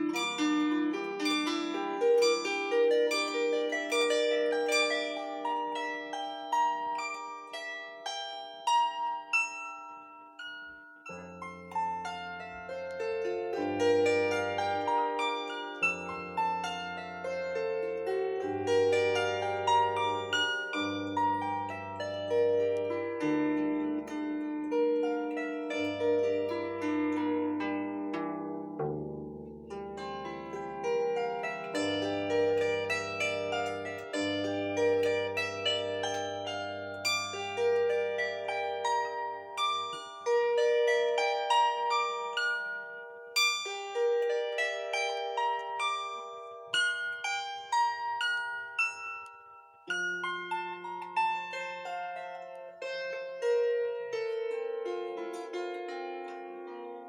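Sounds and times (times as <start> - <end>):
plucked bandura: 0.0 - 57.0.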